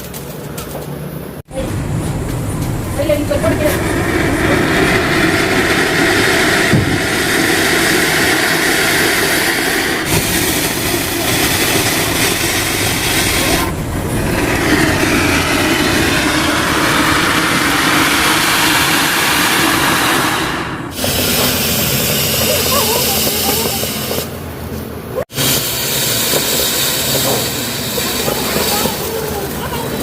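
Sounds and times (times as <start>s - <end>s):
firecracker hissing rush: 1.6s - 30.0s.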